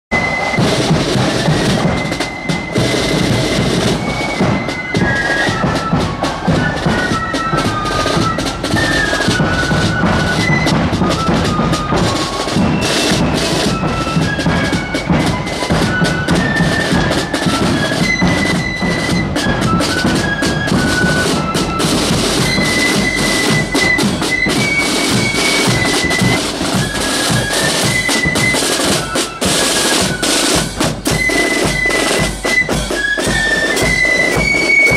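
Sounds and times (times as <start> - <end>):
flutes playing melody: 0.1 - 34.9
snare drums rattling: 0.1 - 34.9.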